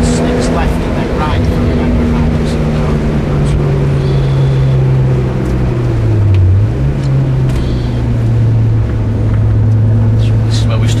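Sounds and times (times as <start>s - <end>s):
car engine running hard: 0.0s - 11.0s
road and wind noise: 0.0s - 11.0s.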